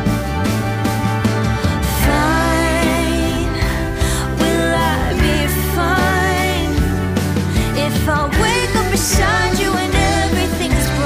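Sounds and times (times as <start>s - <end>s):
song with singing voice and bass: 0.0s - 11.0s.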